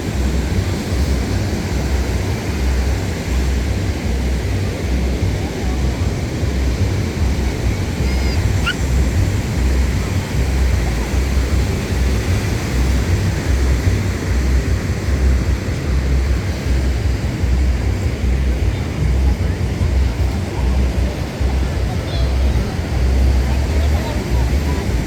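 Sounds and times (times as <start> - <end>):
ocean surf: 0.0 - 25.0
wind buffeting microphone: 0.0 - 25.0.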